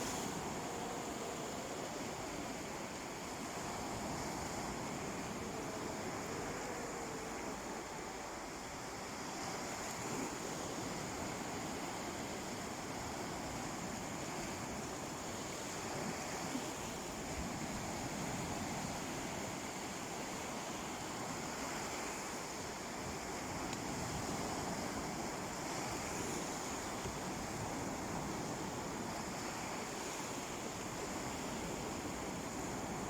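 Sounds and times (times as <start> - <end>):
sea surf washing onto beach: 0.0 - 33.0
wind: 0.0 - 33.0.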